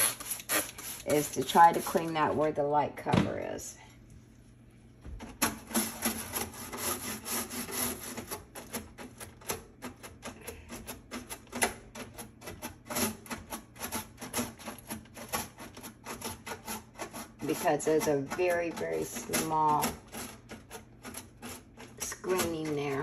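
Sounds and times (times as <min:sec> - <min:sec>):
toothbrush scrubbing metal screen: 0:00.0 - 0:02.2, 0:05.6 - 0:23.0.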